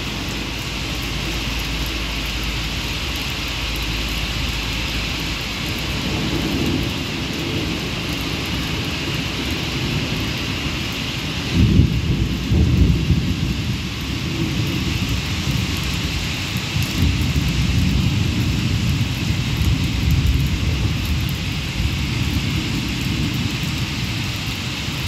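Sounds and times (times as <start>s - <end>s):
heavy rain: 0.0s - 25.0s
thunder rumbling: 0.0s - 25.0s.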